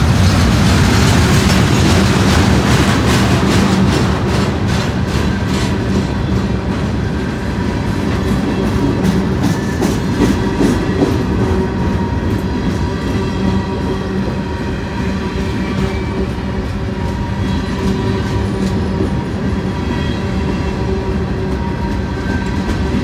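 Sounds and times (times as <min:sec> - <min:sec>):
clickety-clack over rail joints: 0:00.0 - 0:23.0
freight train wheels rumbling: 0:00.0 - 0:23.0.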